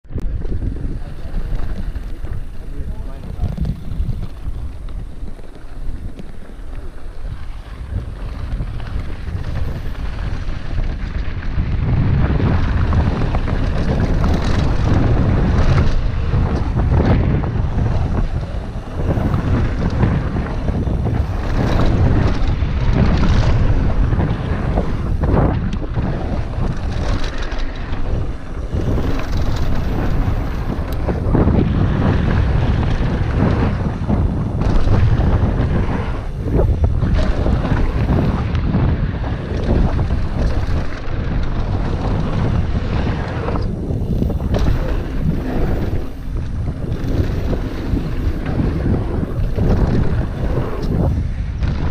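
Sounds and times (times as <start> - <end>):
wind buffeting microphone: 0.0 - 51.9
bike tyres on loose dirt: 0.1 - 51.9
bike knocks and rattles: 0.4 - 51.9.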